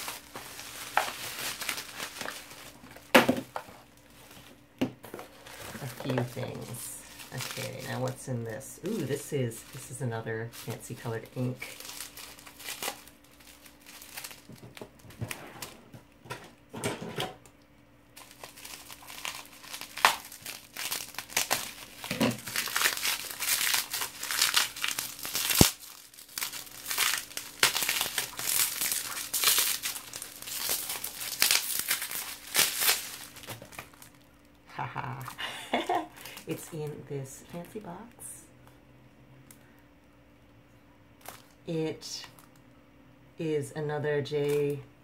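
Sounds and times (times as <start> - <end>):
bubble wrap crinkling: 0.0 - 16.3, 18.1 - 37.9, 41.2 - 42.6, 44.4 - 44.8.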